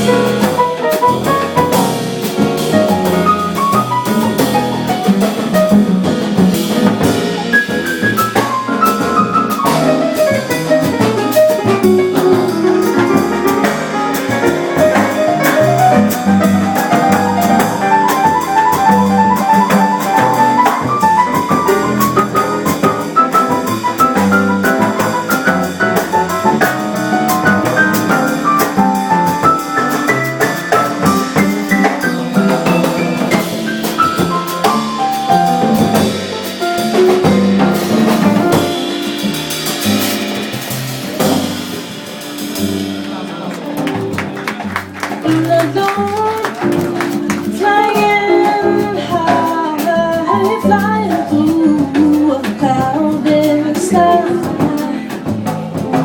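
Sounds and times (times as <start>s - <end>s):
drum kit: 0.0s - 56.0s
piano: 0.0s - 56.0s.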